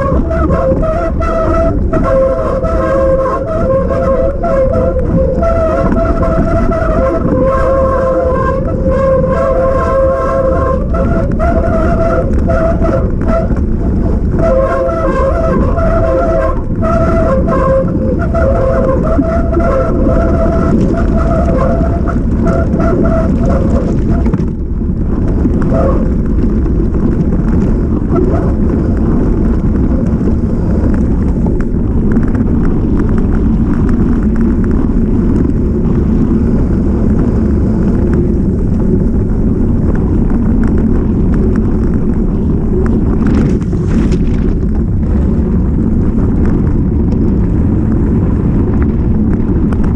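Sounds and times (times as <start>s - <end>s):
bike rattling over ground: 0.0s - 49.9s
bike tyre noise: 0.0s - 49.9s
wind rumble on microphone: 0.0s - 49.9s.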